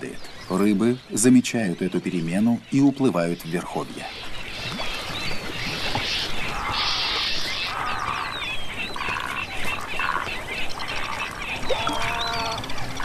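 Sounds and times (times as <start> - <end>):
harsh buzzy bird calls: 0.0 - 13.0.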